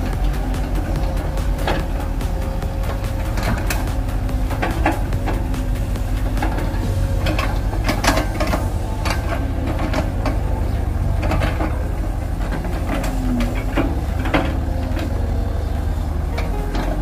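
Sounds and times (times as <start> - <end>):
excavator diesel engines running: 0.0 - 17.0
metallic clanks of excavator buckets: 0.0 - 17.0.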